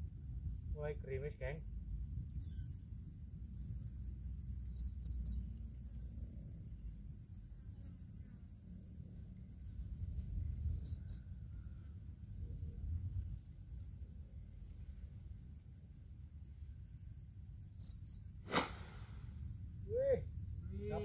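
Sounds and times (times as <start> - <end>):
high-pitched insect whine: 0.0 - 21.0
insects chirping: 0.0 - 21.0.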